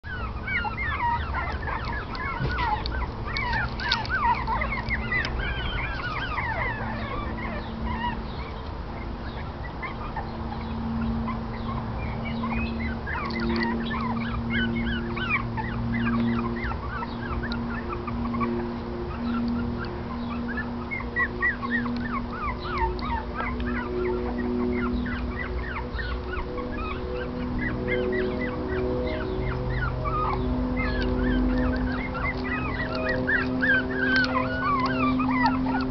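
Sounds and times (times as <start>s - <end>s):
low steady hum: 0.0s - 35.9s
puppies squeaking and yelping: 0.0s - 35.9s.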